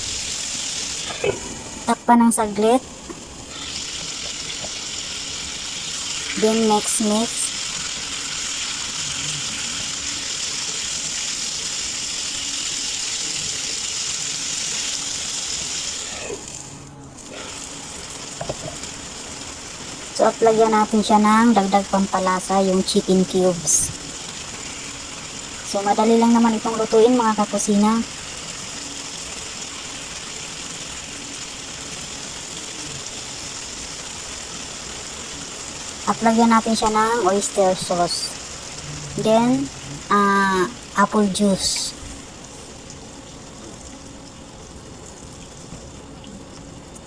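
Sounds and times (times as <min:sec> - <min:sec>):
chicken sizzling in frying pan: 0:00.0 - 0:47.0.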